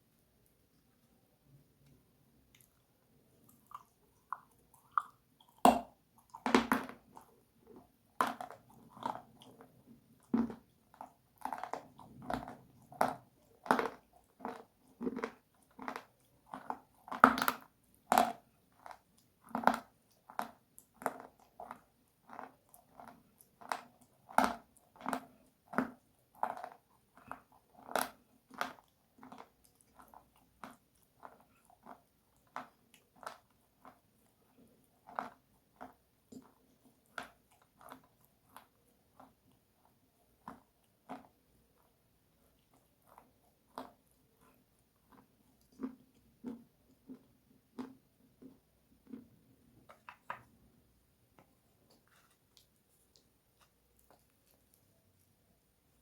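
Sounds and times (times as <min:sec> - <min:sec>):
mouth chewing crunchy food: 0:00.5 - 0:56.0.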